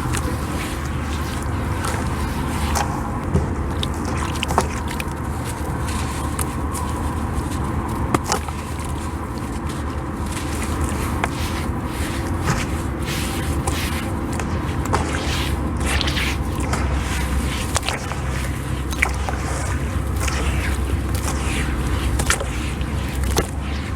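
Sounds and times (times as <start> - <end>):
sand chunks crunching and crumbling: 0.0 - 23.9
steady low hum: 0.0 - 23.9.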